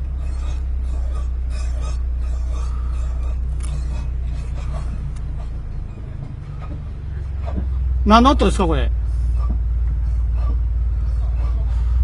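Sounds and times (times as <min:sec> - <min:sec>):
car running with low hum: 0:00.0 - 0:12.0
faint wheel squeak: 0:00.0 - 0:12.0.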